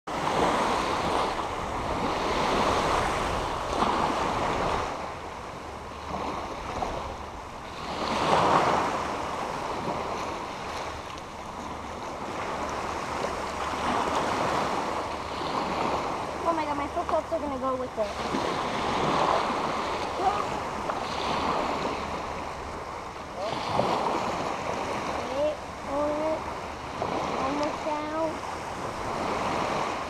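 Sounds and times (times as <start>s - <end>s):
small waves washing on shore: 0.1s - 30.0s.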